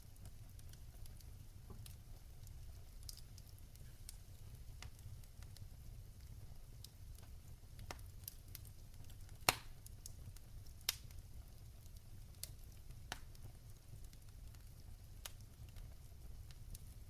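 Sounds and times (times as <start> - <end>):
fire crackling and popping: 0.0 - 17.0
low rumble of flame: 0.0 - 17.0.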